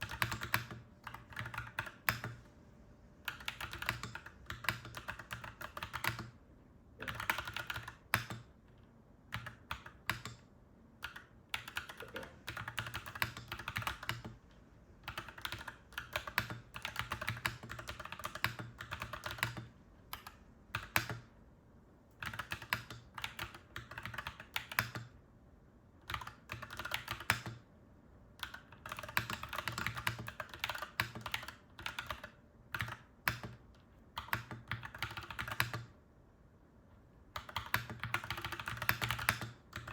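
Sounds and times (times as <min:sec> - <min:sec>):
mechanical keyboard typing: 0:00.0 - 0:02.4, 0:03.3 - 0:06.4, 0:07.0 - 0:08.6, 0:09.3 - 0:14.4, 0:15.0 - 0:21.3, 0:22.2 - 0:25.2, 0:26.0 - 0:27.7, 0:28.4 - 0:35.9, 0:37.3 - 0:39.9.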